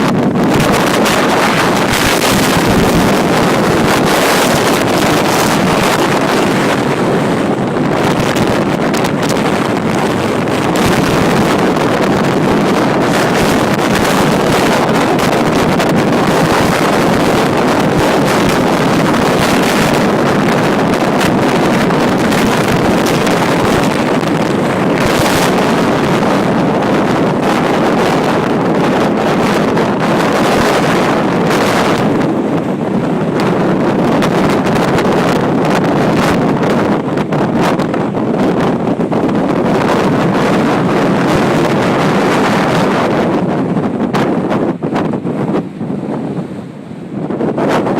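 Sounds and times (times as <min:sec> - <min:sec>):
strong wind: 0:00.0 - 0:47.9
wind buffeting microphone: 0:00.0 - 0:47.9.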